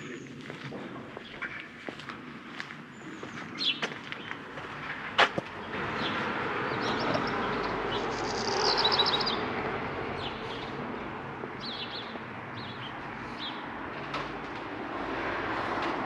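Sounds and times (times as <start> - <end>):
songbirds chirping: 0.0 - 14.9
steady background noise: 0.0 - 16.0.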